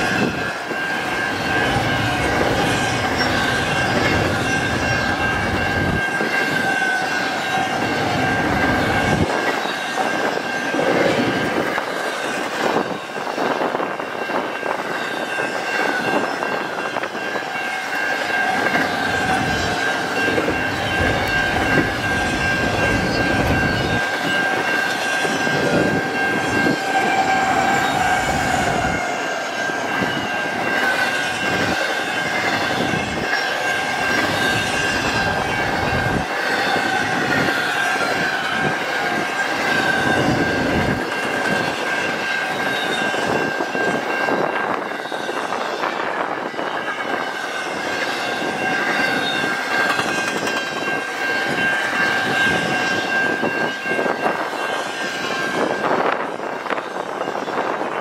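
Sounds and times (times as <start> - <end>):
high-pitched ringing tone: 0.0 - 57.8
freight train cars rolling past: 0.0 - 58.0.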